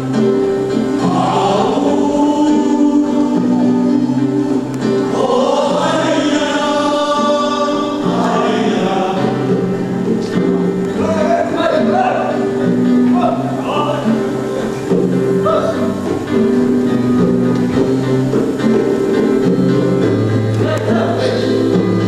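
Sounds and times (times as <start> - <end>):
group of voices singing: 0.0 - 16.0, 17.8 - 22.0
long held chords: 0.0 - 22.0.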